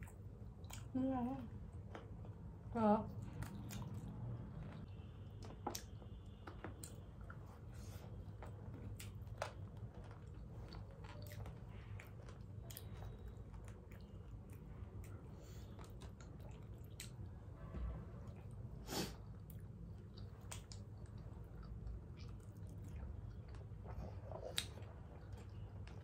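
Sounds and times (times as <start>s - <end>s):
chewing and biting food: 3.2s - 17.4s, 19.2s - 26.0s.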